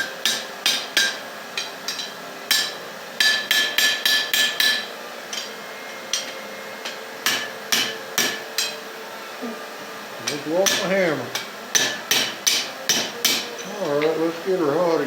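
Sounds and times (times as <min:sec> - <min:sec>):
hammer striking hot steel: 0:00.0 - 0:05.5, 0:06.1 - 0:08.8, 0:10.2 - 0:14.3.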